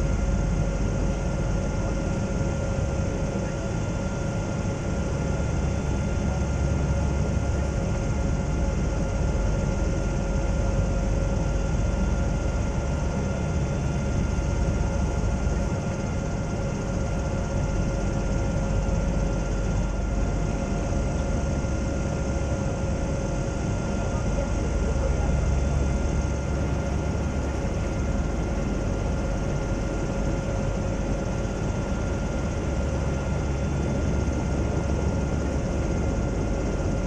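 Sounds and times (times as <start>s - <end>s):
airship engines droning in cabin: 0.0s - 37.0s.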